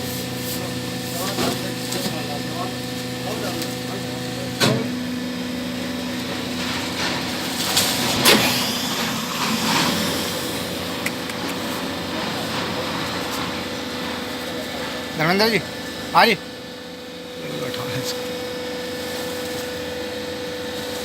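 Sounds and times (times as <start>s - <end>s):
baling press motor hum: 0.0s - 21.0s.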